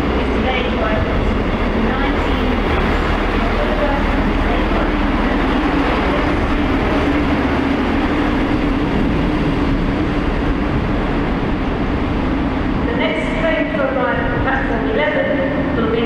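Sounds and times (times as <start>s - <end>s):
constant hum: 0.0s - 16.0s
train running: 0.0s - 16.0s.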